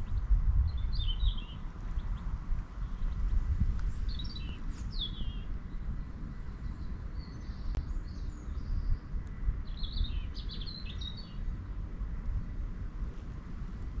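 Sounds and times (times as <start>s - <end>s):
songbird chirps and trill: 0.0s - 11.8s
low outdoor rumble: 0.0s - 14.0s.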